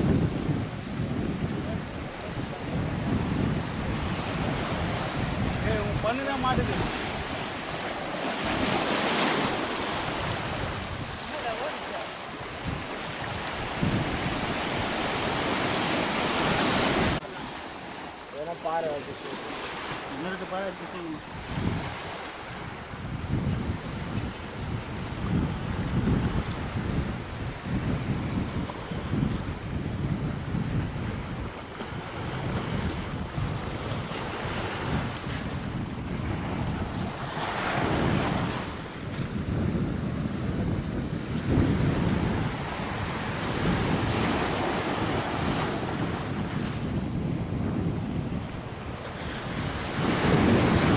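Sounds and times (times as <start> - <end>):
surf washing up beach: 0.0 - 50.9
wind buffeting microphone: 0.0 - 50.9.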